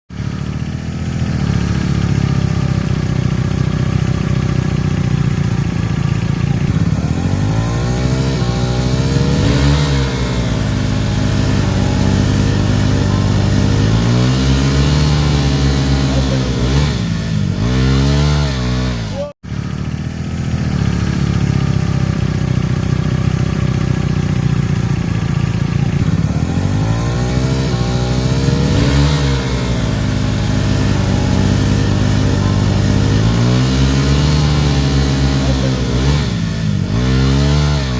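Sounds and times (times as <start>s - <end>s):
motorcycle engine idling: 0.1s - 37.9s
motorcycle throttle blips: 0.1s - 37.9s.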